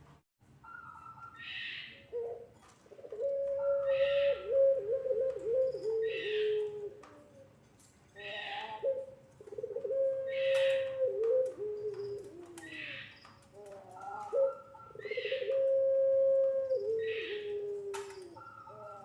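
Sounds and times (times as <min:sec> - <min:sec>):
turtle dove cooing: 0:00.6 - 0:07.6, 0:08.2 - 0:19.0.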